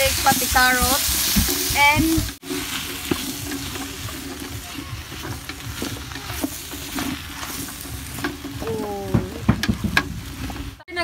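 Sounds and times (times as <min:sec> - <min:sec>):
utensil scraping a metal pot: 0:00.0 - 0:10.8
vegetables sizzling in a pot: 0:00.0 - 0:11.0.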